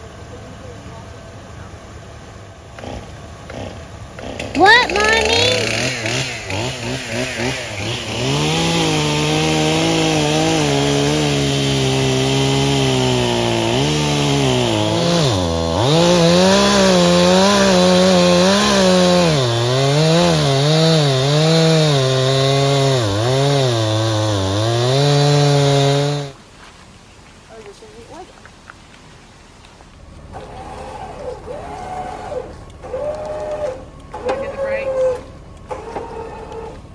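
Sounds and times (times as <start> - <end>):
chainsaw cutting wood: 2.6 - 26.4, 30.2 - 36.9.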